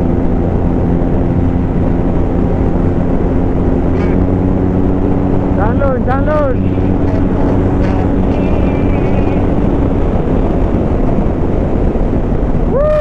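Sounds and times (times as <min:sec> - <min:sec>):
motorcycle engine drone: 0:00.0 - 0:13.0
wind rushing across microphone: 0:00.0 - 0:13.0.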